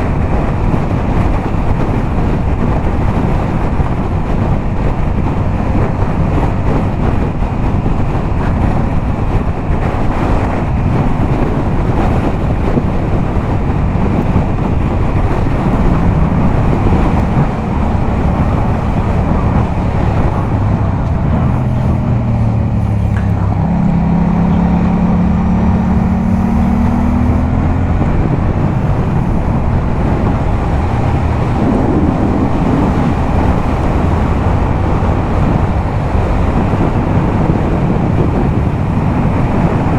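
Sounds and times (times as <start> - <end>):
motorcycle engine at speed: 0.0 - 39.9
wind noise on microphone: 0.0 - 39.9.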